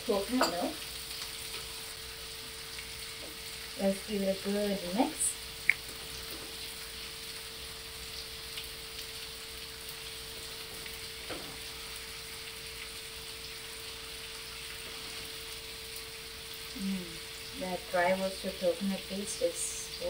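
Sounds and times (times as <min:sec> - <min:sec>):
faint constant hum: 0:00.0 - 0:20.0
food sizzling in a frying pan: 0:00.0 - 0:20.0.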